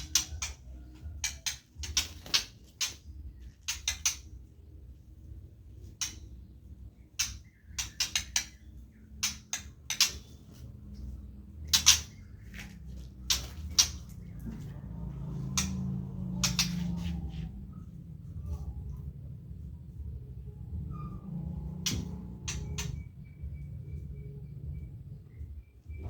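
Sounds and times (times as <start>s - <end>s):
caged birds chip calls: 0.0s - 26.0s
low steady hum: 0.0s - 26.0s.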